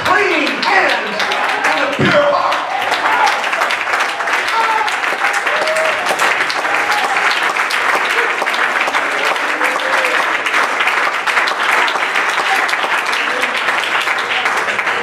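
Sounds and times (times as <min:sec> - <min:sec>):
many hands clapping: 0:00.0 - 0:15.0.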